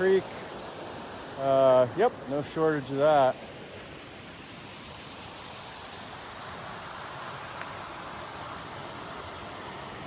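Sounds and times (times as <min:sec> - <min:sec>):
creek running over rocks: 0:00.0 - 0:10.0.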